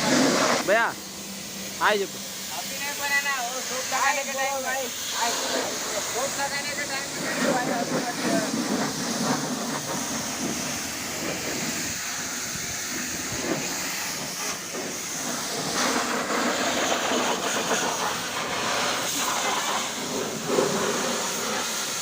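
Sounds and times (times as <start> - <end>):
high-pressure water jet spraying: 0.0 - 22.0.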